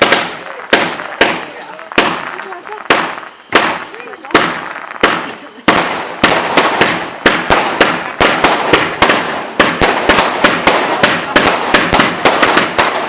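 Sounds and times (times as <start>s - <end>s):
fireworks banging: 0.0s - 13.0s
fireworks crackling: 0.0s - 13.0s.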